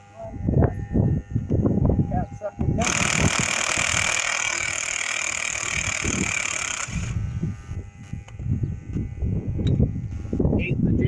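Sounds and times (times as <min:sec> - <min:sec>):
impact wrench rattling buzz: 0:00.5 - 0:10.6.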